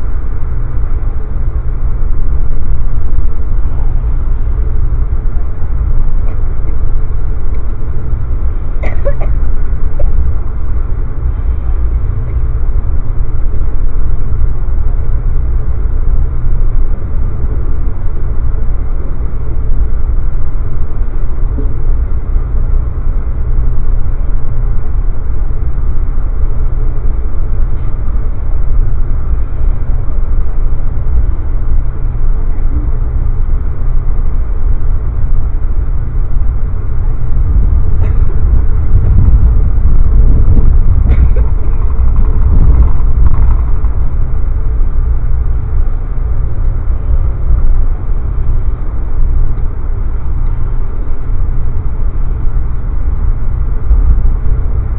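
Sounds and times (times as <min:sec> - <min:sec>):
train coach rumbling at speed: 0:00.0 - 0:54.9.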